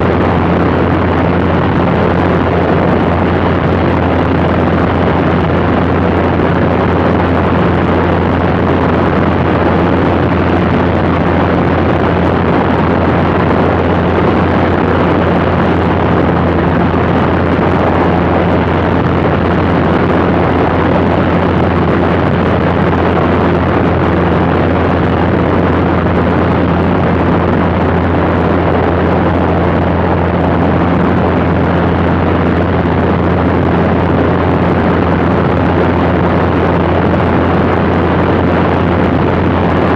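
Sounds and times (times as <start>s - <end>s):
aircraft propeller engine droning: 0.0s - 39.9s
rush of wind: 0.0s - 39.9s.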